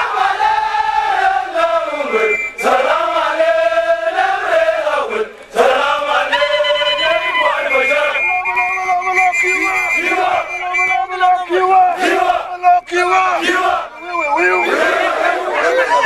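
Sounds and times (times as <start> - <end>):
soldiers chanting together: 0.0 - 8.2, 9.9 - 10.5, 11.4 - 16.0.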